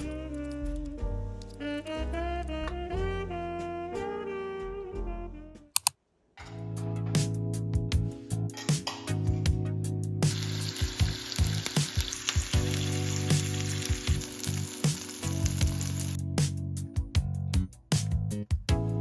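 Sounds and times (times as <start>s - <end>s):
background music with low notes: 0.0s - 19.0s.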